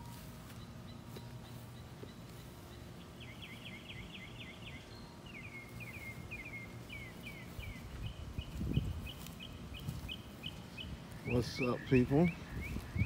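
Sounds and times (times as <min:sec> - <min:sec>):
low outdoor rumble: 0:00.0 - 0:13.0
songbird chirping: 0:00.0 - 0:13.0.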